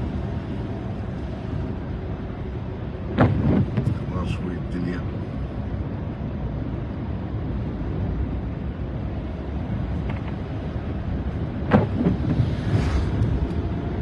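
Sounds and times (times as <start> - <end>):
tyres on wet road: 0.0 - 14.0.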